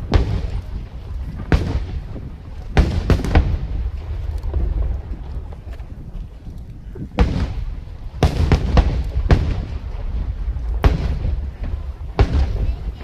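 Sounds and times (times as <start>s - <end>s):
fireworks bangs: 0.0s - 5.8s, 7.0s - 13.0s
low rumble: 0.0s - 13.0s.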